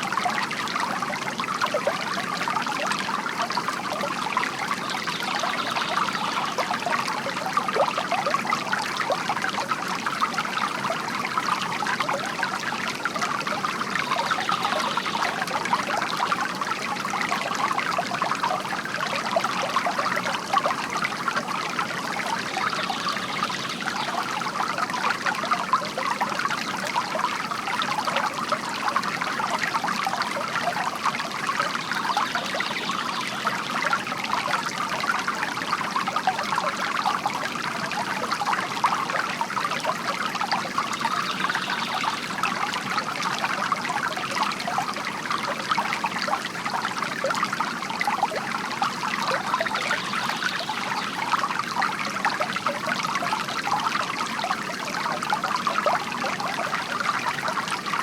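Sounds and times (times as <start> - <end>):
fountain water trickling into basin: 0.0 - 58.0.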